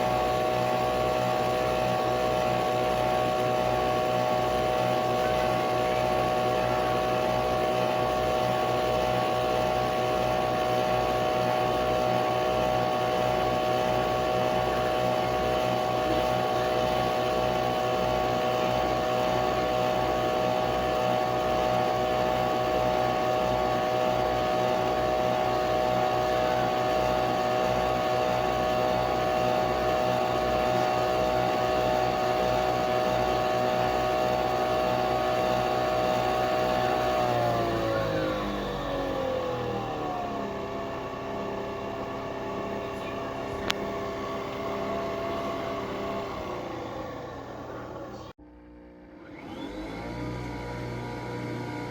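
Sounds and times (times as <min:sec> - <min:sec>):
coffee machine whirring: 0:00.0 - 0:51.9.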